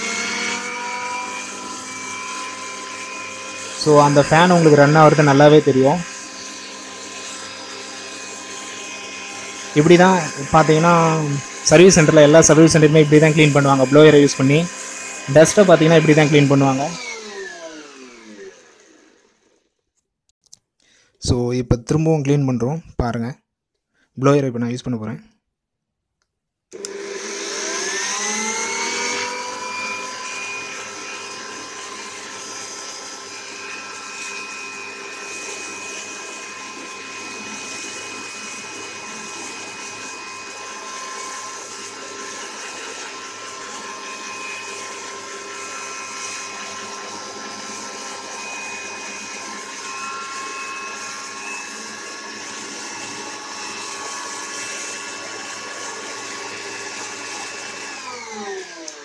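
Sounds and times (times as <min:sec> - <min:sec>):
electric blower motor whine: 0:00.0 - 0:19.8, 0:26.7 - 0:59.0.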